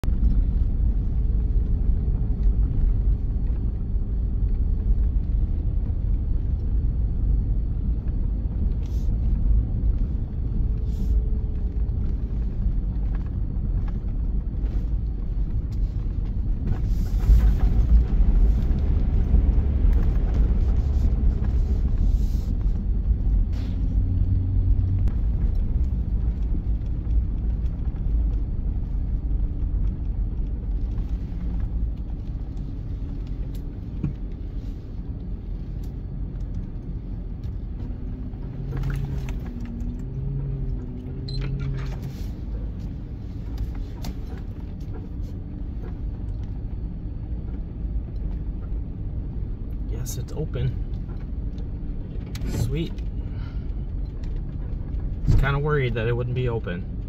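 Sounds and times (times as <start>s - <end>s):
truck engine and tyres rumbling: 0.0s - 57.0s.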